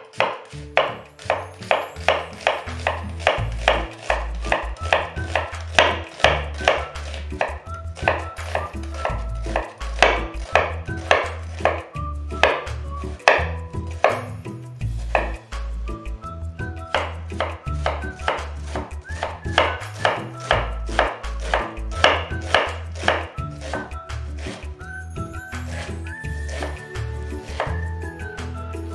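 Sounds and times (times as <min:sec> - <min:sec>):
knife chopping onion on board: 0:00.0 - 0:15.6, 0:16.9 - 0:24.7, 0:25.7 - 0:26.8, 0:27.4 - 0:27.8
soft background music: 0:00.0 - 0:28.9.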